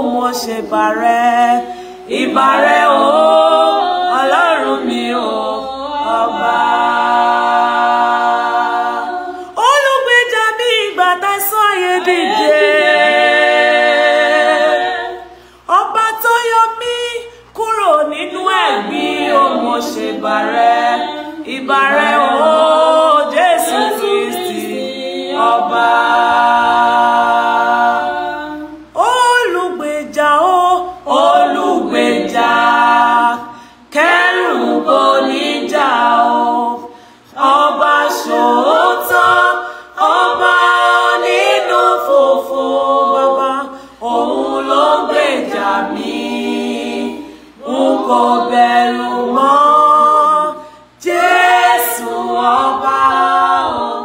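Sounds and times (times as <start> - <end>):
group of voices singing: 0.0 - 54.0.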